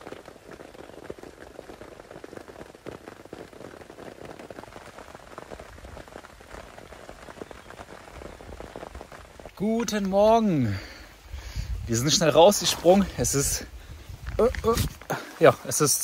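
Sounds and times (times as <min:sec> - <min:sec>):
rain pattering on tent fabric: 0:00.0 - 0:16.0.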